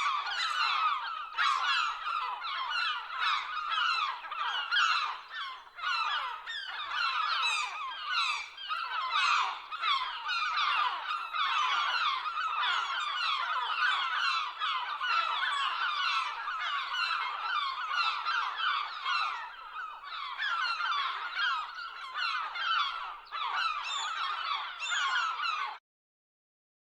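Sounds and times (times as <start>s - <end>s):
gulls squawking: 0.0s - 25.8s.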